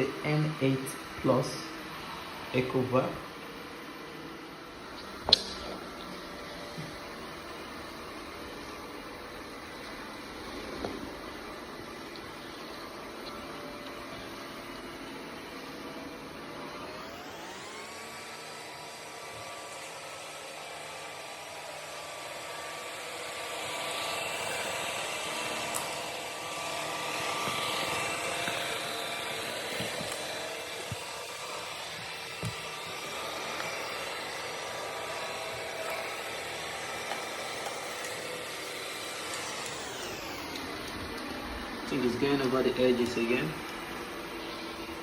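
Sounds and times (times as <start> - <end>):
robot vacuum motor whir: 0.0 - 45.0.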